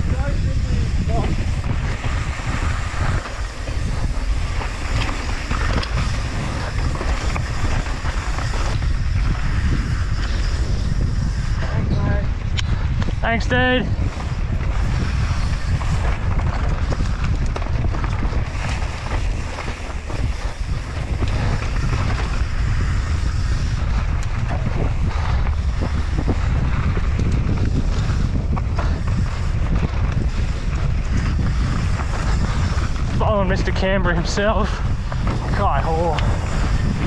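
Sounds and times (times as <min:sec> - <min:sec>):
tyres rumbling on dirt: 0:00.0 - 0:12.2, 0:13.3 - 0:37.0
bike clicks and rattles: 0:00.0 - 0:37.0
wind buffeting microphone: 0:00.0 - 0:37.0.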